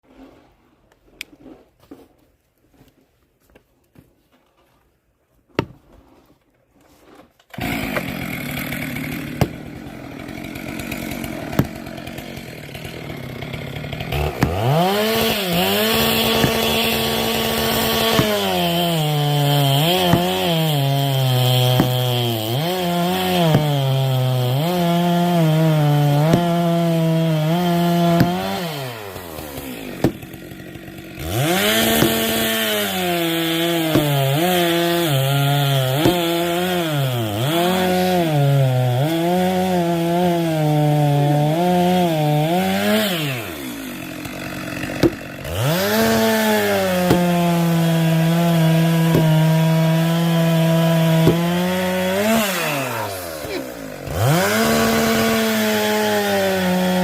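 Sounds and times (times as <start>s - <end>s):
chainsaw cutting wood: 5.6s - 57.0s.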